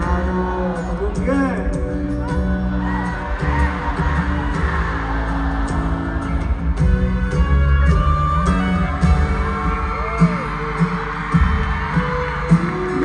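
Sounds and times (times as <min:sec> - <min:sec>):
bass guitar: 0:00.0 - 0:13.0
drums: 0:00.0 - 0:13.0
guitar: 0:00.0 - 0:13.0.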